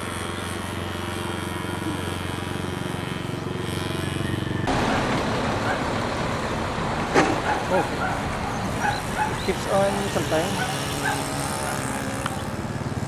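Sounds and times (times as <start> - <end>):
model airplane motor buzzing: 0.0 - 5.9, 7.5 - 13.0.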